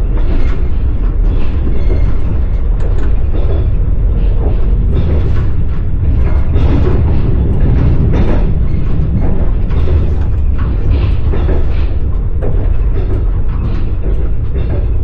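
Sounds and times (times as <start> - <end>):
train rumbling on rails: 0.0 - 15.0
wheels knocking and rattling: 0.0 - 15.0.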